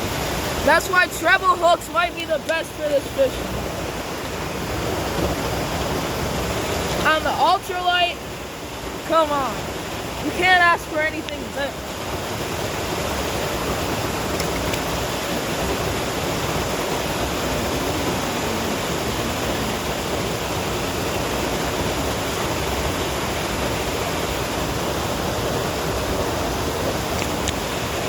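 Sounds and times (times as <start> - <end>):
creek water pouring over spillway: 0.0 - 28.0.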